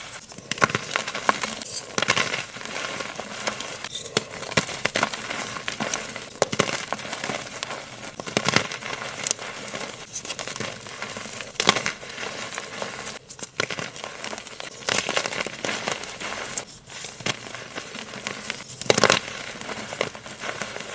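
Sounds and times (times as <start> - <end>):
concrete crunching being mixed: 0.0 - 20.9.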